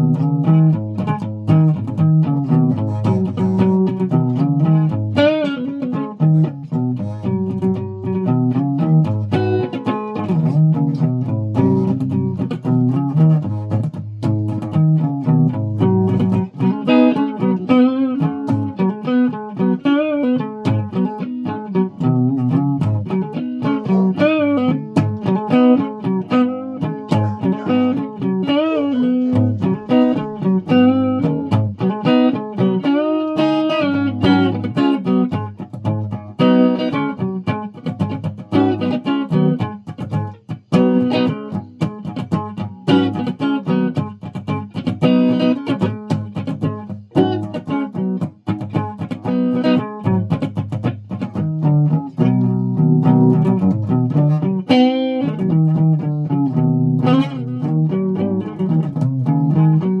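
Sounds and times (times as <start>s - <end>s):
guitar being plucked: 0.0s - 60.0s.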